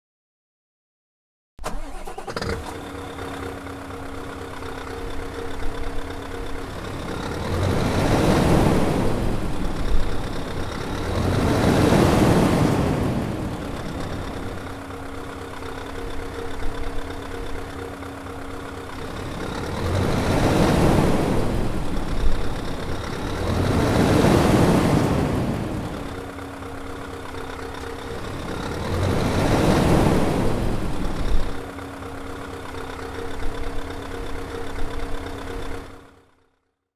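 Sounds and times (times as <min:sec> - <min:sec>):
diesel engine idling and revving: 0:01.6 - 0:36.6.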